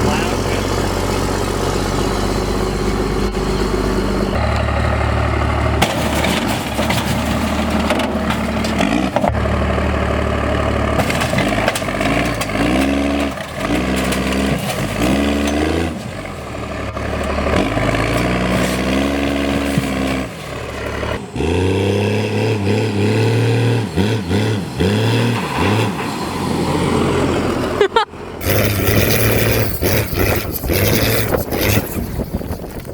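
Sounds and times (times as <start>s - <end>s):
diesel truck engine revving: 0.0s - 32.9s.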